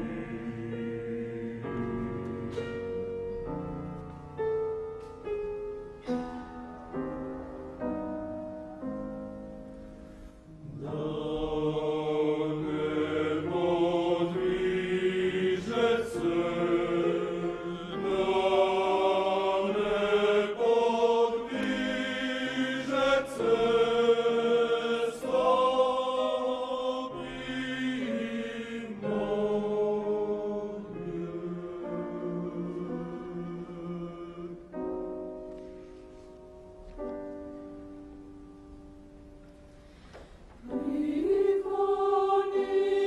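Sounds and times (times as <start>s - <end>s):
choir singing sustained chords: 0.0s - 36.8s, 37.4s - 43.0s
soft piano: 0.0s - 43.0s.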